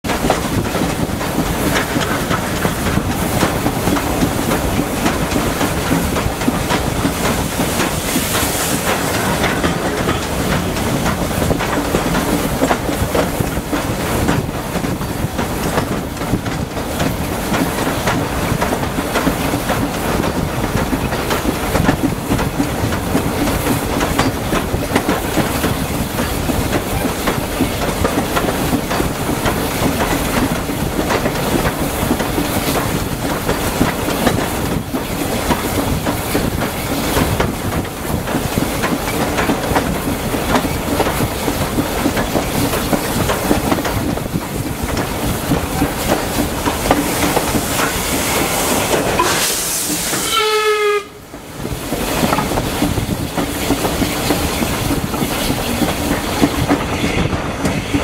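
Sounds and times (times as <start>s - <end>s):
train wheels rumbling on rail: 0.0s - 58.0s
wheel clicks over rail joints: 0.1s - 48.0s.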